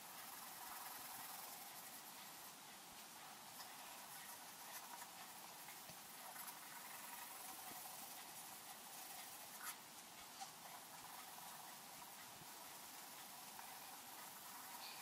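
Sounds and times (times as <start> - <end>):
pencil scratching on paper: 0.0 - 15.0
sharp pencil tick: 0.0 - 15.0.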